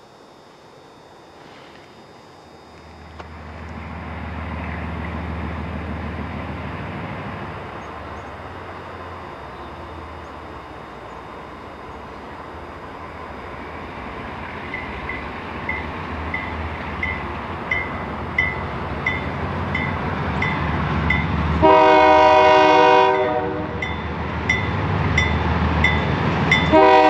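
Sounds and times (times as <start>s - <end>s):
crossing bell dinging: 0.0s - 27.0s
diesel locomotive engine rumble: 0.6s - 27.0s.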